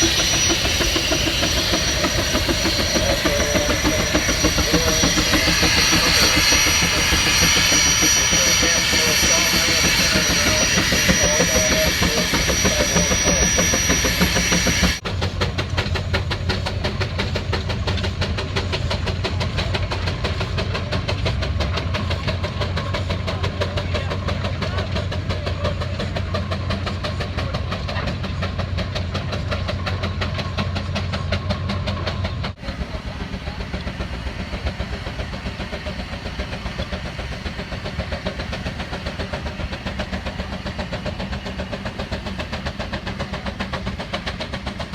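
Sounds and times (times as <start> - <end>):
engines running: 0.0 - 44.9.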